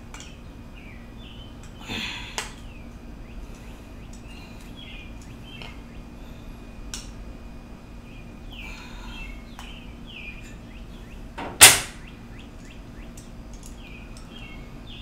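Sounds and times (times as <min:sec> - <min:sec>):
small birds chirping: 0:00.0 - 0:07.2, 0:07.8 - 0:11.4, 0:12.0 - 0:15.0.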